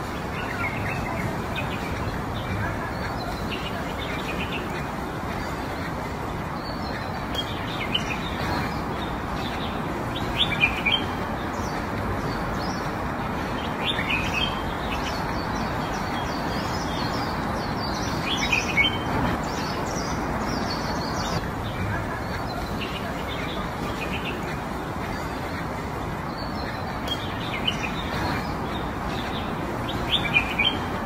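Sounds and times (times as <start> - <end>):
small birds chirping: 0.0 - 31.0
steady background hiss: 0.0 - 31.0.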